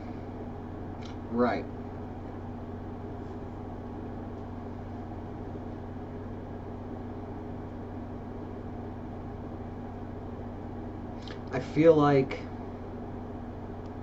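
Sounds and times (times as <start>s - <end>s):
steady electrical hum and hiss: 0.0s - 14.0s.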